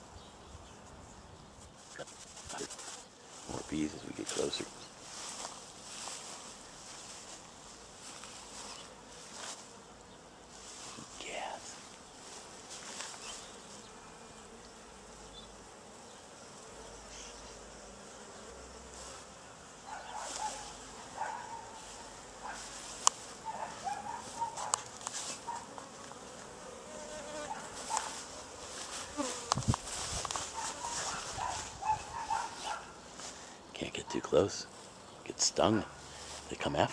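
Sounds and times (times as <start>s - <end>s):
honeybees buzzing: 0.0s - 36.9s.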